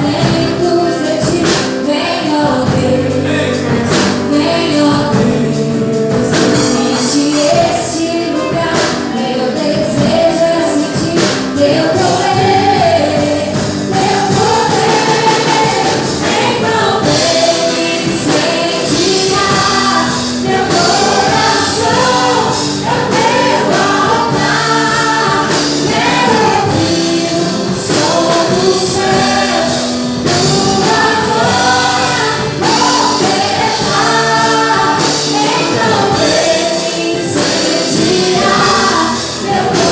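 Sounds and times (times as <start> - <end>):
group singing gospel song: 0.0 - 39.9
instrumental accompaniment: 0.0 - 39.9.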